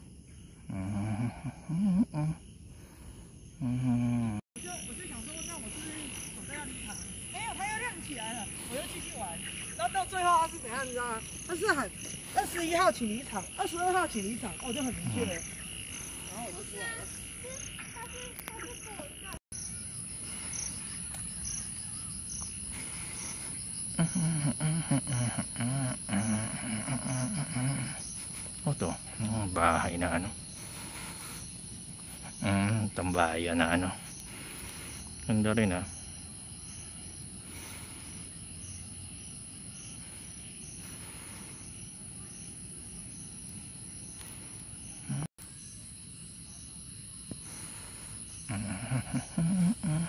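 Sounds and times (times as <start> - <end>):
insects chirping: 0.0 - 50.0.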